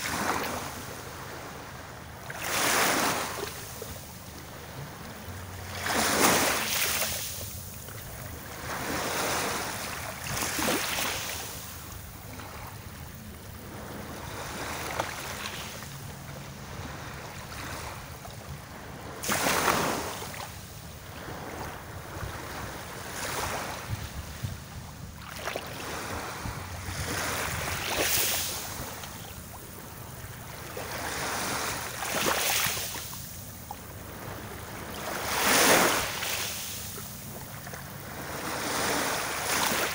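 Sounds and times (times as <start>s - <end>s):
small waves breaking on shore: 0.0s - 39.9s
steady wash of water: 0.0s - 39.9s.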